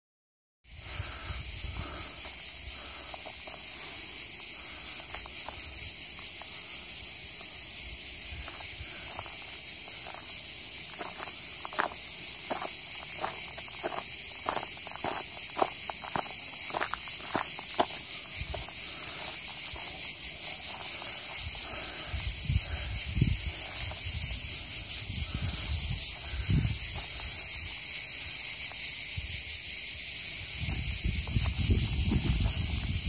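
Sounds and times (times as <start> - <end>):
insects chorus: 0.6 - 33.0
footsteps on dirt trail: 0.8 - 33.0.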